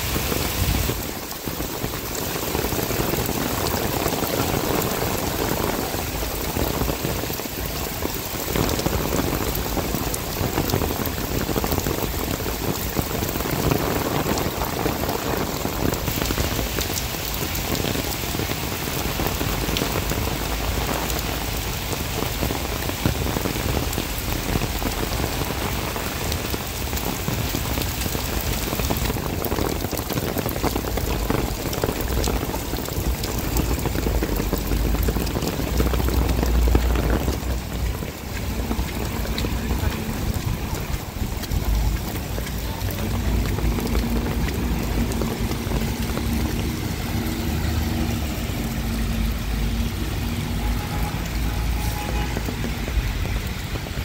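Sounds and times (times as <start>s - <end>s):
rain splashing on wet pavement: 0.0s - 54.0s.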